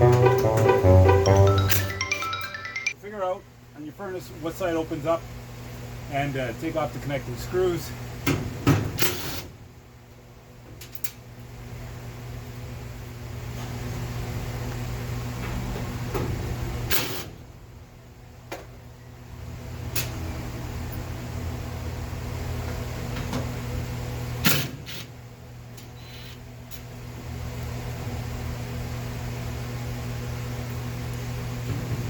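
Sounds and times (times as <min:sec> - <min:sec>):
low mechanical hum: 0:03.0 - 0:32.0.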